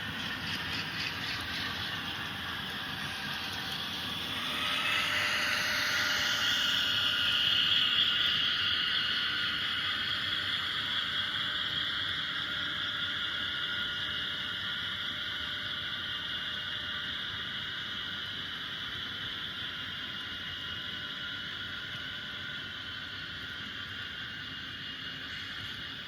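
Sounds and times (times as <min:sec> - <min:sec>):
high whine from tiny speaker: 0:00.0 - 0:26.0.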